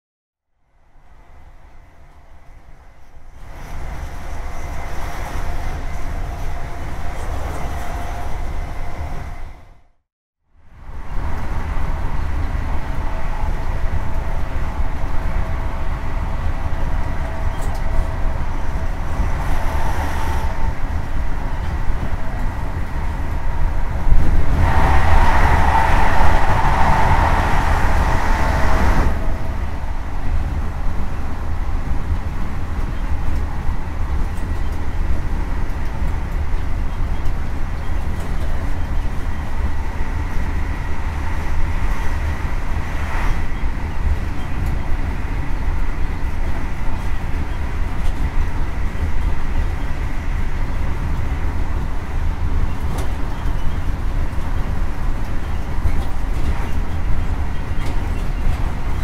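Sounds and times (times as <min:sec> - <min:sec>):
rail noise: 0:00.6 - 0:10.0, 0:10.6 - 0:59.0
diesel train engine rumble: 0:00.7 - 0:09.9, 0:10.6 - 0:59.0
wind rush: 0:10.8 - 0:59.0.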